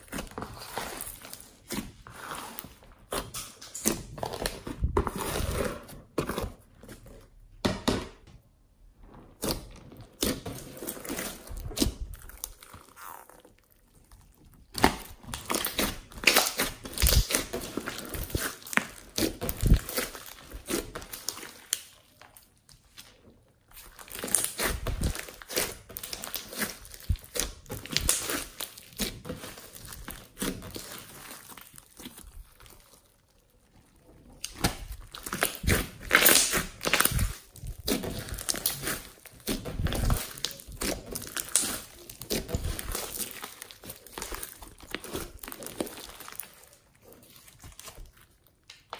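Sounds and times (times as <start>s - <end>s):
slime squelching and popping: 9.3s - 48.9s.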